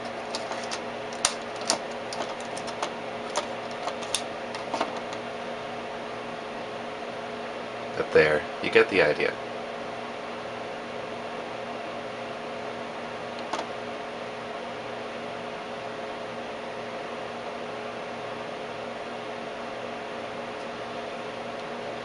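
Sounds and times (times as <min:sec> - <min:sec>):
oscilloscope hum and fan noise: 0:00.0 - 0:22.0.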